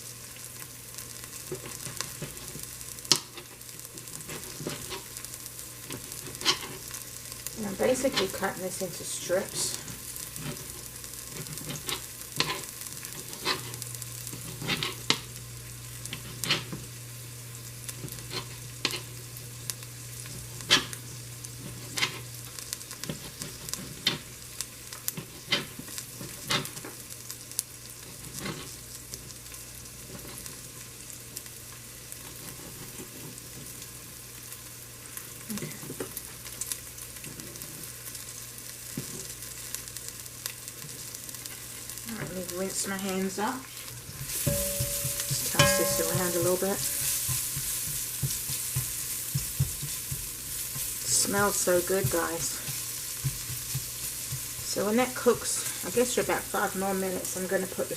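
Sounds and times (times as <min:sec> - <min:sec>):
vegetables sizzling in a frying pan: 0:00.0 - 0:57.9.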